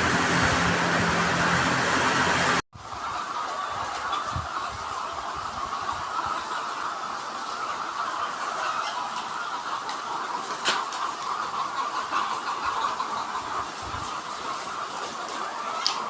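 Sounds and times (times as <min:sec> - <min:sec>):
chickens cheeping and clucking: 0:00.0 - 0:16.0.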